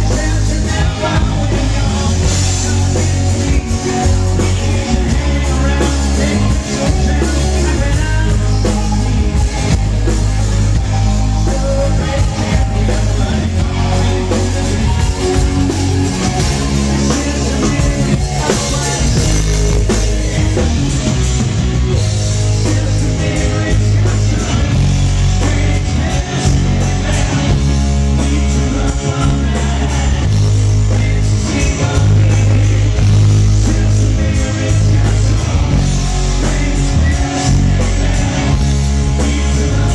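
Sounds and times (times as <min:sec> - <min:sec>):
drum kit with crashing cymbals: 0:00.0 - 0:39.9
electric guitar: 0:00.0 - 0:39.9
heavy bass: 0:00.0 - 0:39.9.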